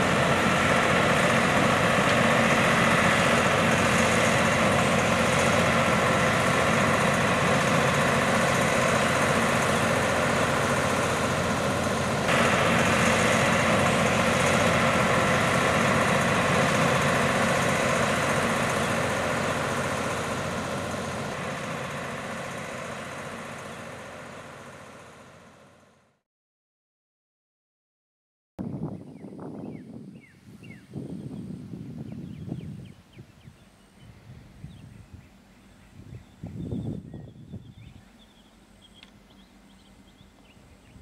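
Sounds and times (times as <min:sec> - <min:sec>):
diesel locomotive engine drone: 0:00.0 - 0:26.2, 0:29.7 - 0:41.0.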